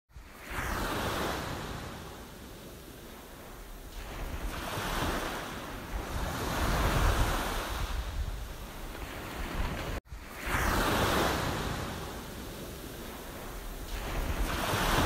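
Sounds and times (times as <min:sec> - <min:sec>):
small waves on sandy beach: 0:00.1 - 0:15.0
wind buffeting microphone: 0:00.2 - 0:15.0.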